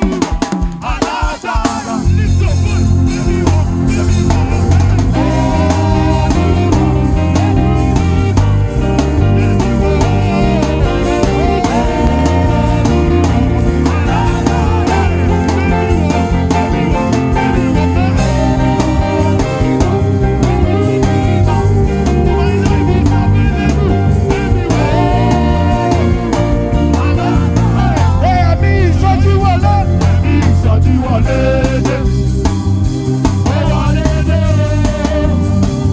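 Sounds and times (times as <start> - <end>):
band music: 0.0 - 35.9
drum kit beat: 0.0 - 35.9.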